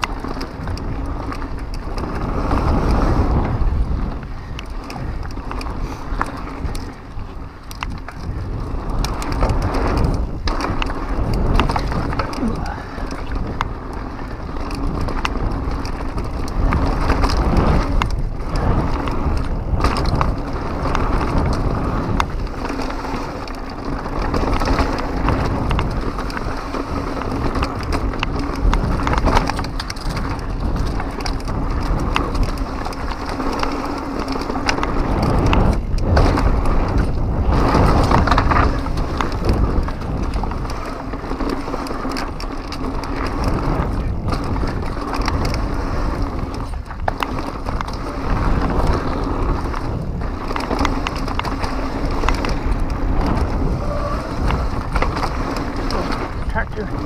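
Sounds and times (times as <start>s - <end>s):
bike clattering over bumps: 0.0s - 57.0s
tire noise on loose dirt: 0.0s - 57.0s
wind on microphone: 0.0s - 57.0s.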